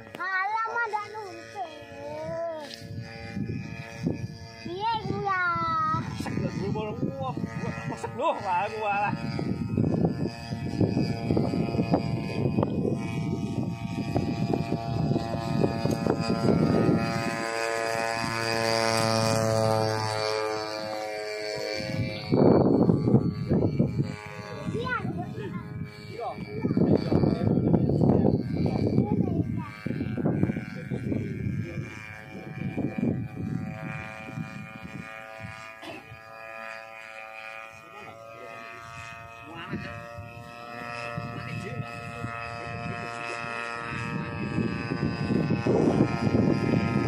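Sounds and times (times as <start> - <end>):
low rumbling: 0.0 - 47.0
small engine buzzing drone: 0.0 - 47.0.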